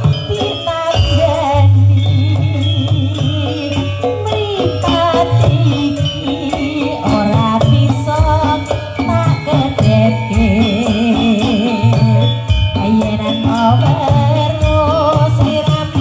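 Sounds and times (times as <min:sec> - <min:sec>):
hand-drum percussion: 0:00.0 - 0:16.0.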